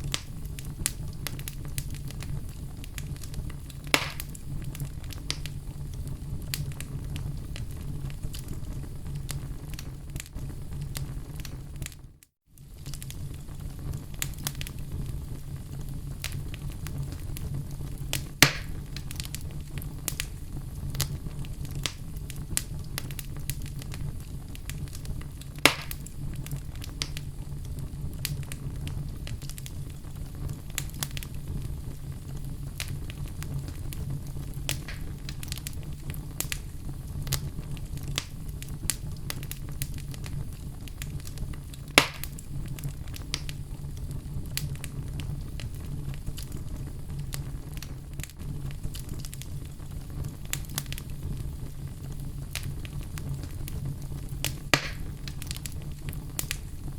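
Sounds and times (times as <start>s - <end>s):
burning logs popping: 0.0s - 56.9s
low rumble of flame: 0.0s - 56.9s
wood fire crackling: 0.0s - 56.9s.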